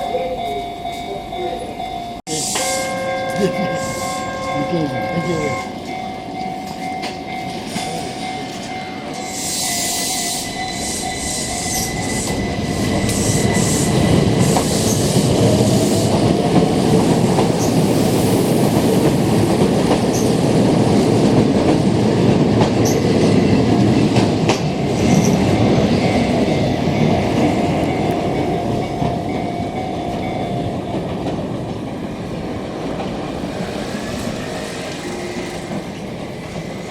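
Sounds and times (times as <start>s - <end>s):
electric train on rails: 0.0s - 36.9s.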